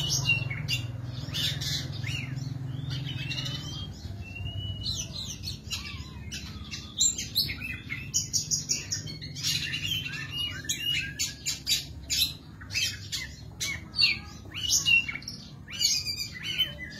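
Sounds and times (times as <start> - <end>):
magpie-robin singing: 0.0 - 16.9.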